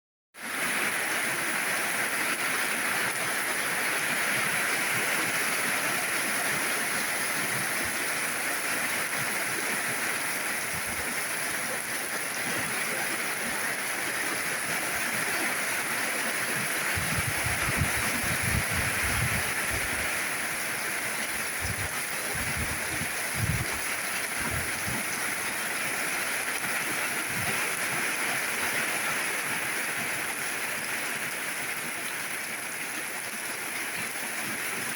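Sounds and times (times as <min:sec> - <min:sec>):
heavy rain falling: 0:00.4 - 0:34.9.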